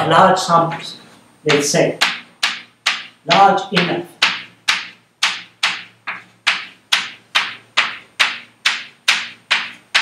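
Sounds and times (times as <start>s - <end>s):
chalk tapping on chalkboard: 0.6s - 10.0s.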